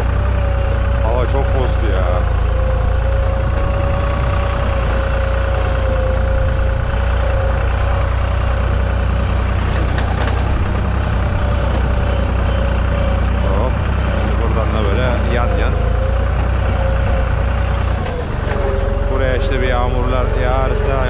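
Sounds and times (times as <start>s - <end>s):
steady whine: 0.0s - 21.0s
tractor engine under load: 0.0s - 21.0s.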